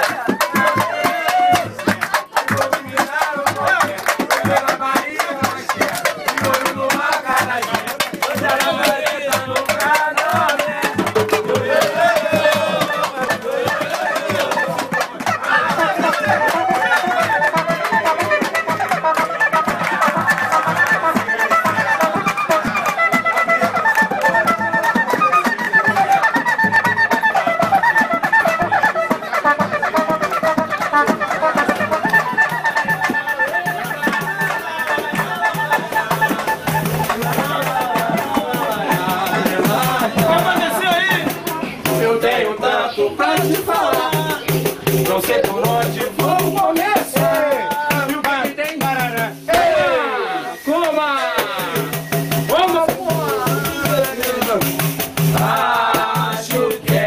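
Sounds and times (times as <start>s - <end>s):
crowd singing along: 0.0s - 23.3s, 31.2s - 48.7s, 49.4s - 57.0s
group singing: 0.0s - 23.8s, 30.0s - 48.7s, 49.3s - 57.0s
hand percussion samba beat: 0.0s - 57.0s.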